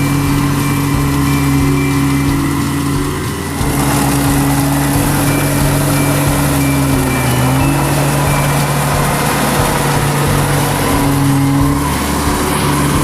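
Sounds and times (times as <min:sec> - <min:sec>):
combine harvester engine humming: 0:00.0 - 0:13.0
high rushing noise: 0:00.0 - 0:13.0.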